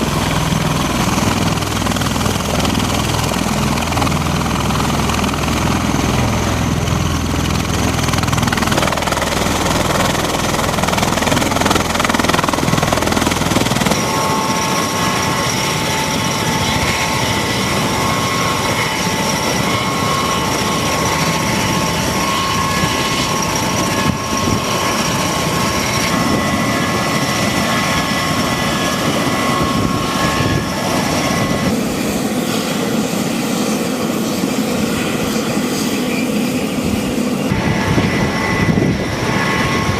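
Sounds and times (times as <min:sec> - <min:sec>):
multi-tone turbine whine: 0:00.0 - 0:39.9.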